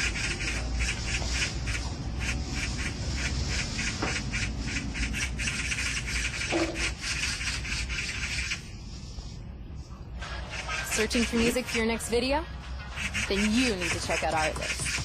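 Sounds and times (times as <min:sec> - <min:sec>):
rhythmic chorus of animal calls: 0:00.0 - 0:08.7, 0:10.2 - 0:15.0.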